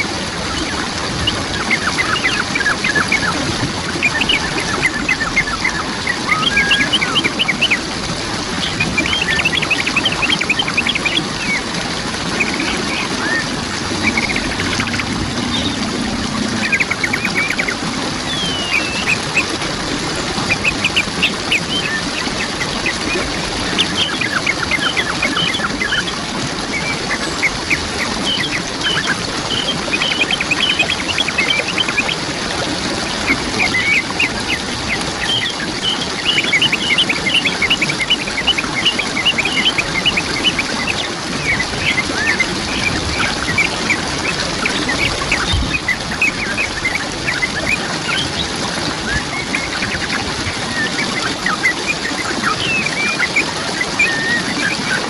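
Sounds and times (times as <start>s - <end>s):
birds chirping: 0.0s - 55.0s
waterfall rushing: 0.0s - 55.0s.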